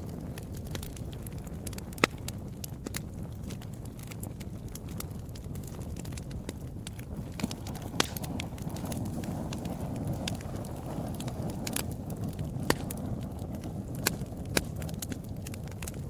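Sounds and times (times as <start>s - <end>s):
fire crackling and popping: 0.0s - 16.0s
wood fire burning: 0.0s - 16.0s.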